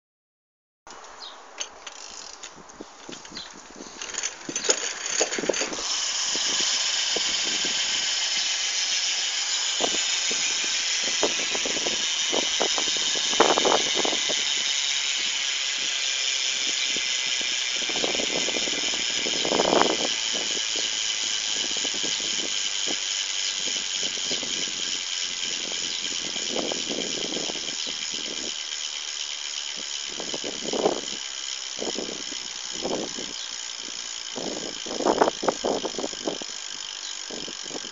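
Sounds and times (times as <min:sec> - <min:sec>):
freehub ratcheting buzz: 0:00.9 - 0:37.9.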